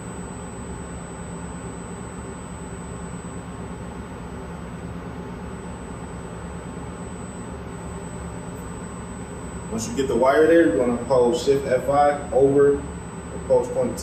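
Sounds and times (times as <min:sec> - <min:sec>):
shop equipment humming: 0:00.0 - 0:14.0
thin high whine: 0:00.0 - 0:14.0.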